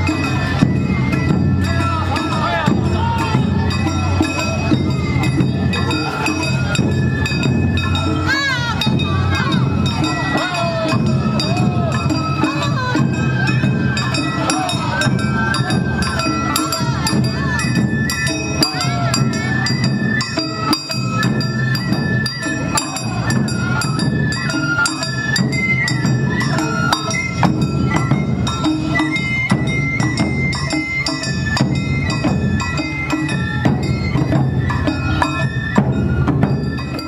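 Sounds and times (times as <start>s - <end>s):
bamboo flute melody: 0.0s - 37.0s
taiko drums: 0.0s - 37.0s.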